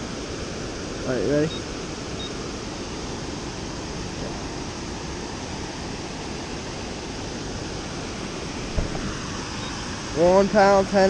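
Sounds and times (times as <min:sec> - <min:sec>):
water rushing through dam outflow: 0:00.0 - 0:11.0.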